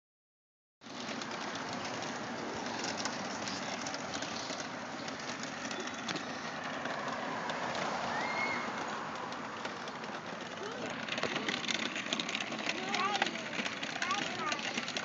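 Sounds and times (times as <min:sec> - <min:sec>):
toy quad wheels rolling on concrete: 0:00.8 - 0:15.0.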